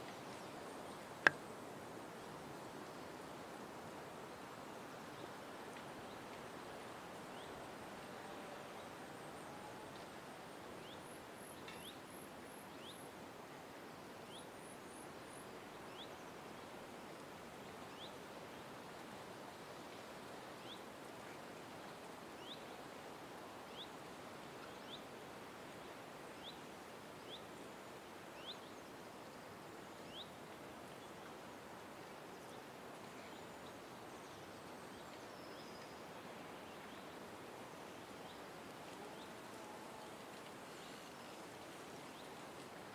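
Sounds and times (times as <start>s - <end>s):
steady background hiss: 0.0s - 42.9s.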